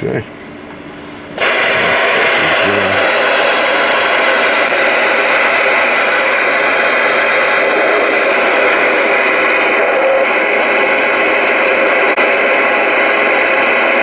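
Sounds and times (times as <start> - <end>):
radio static hiss: 1.4 - 14.0.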